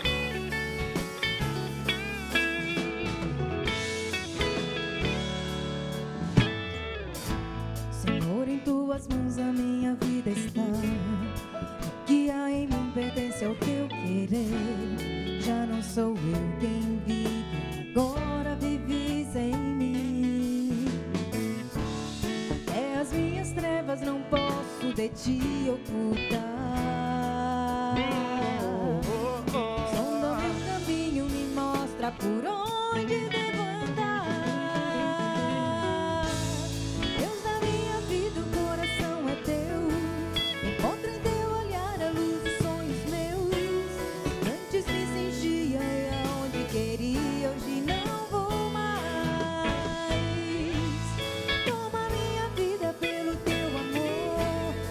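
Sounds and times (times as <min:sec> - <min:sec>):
drums: 0:00.0 - 0:54.9
guitars: 0:00.0 - 0:54.9
keyboard: 0:00.0 - 0:54.9
woman singing: 0:07.9 - 0:21.4, 0:22.4 - 0:54.9.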